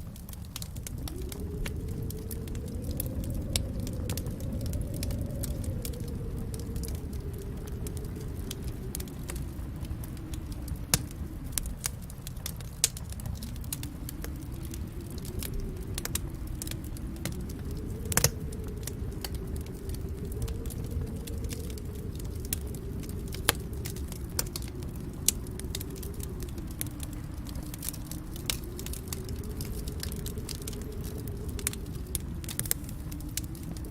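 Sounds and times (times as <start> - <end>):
low rumble of flames: 0.0 - 33.9
wood fire pops and snaps: 0.0 - 33.9.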